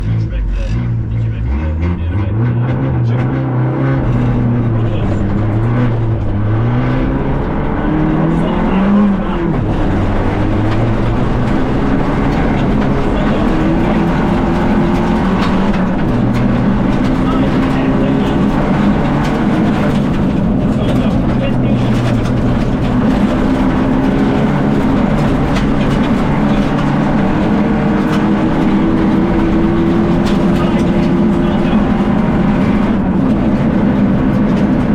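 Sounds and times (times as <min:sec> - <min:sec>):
car engine from inside cabin: 0:00.0 - 0:34.9
road noise: 0:00.0 - 0:34.9.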